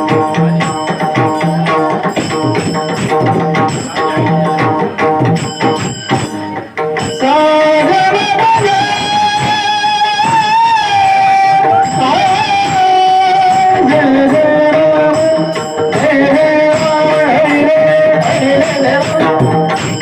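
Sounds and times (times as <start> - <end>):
drum strokes: 0.0 - 20.0.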